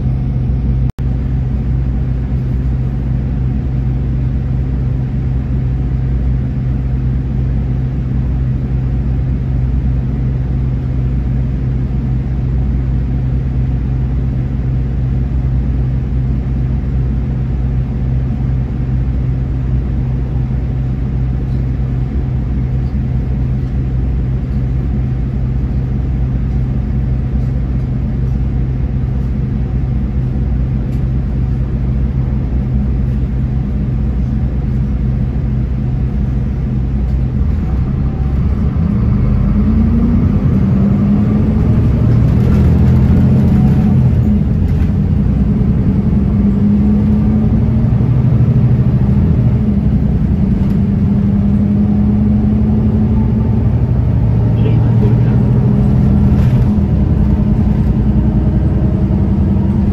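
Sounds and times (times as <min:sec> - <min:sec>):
bus engine idling: 0:00.0 - 0:59.9.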